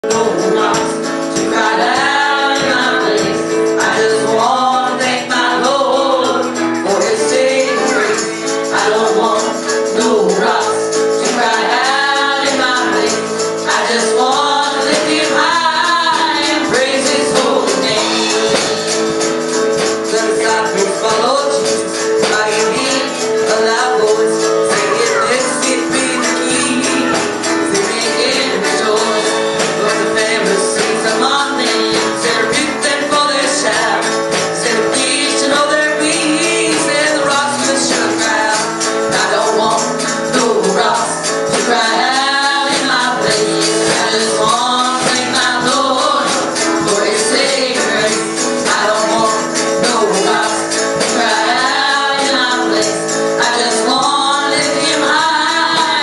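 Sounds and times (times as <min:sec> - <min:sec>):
guitar: 0:00.0 - 0:56.0
percussion tapping beat: 0:00.0 - 0:56.0
piano: 0:00.0 - 0:56.0
women singing: 0:00.0 - 0:56.0.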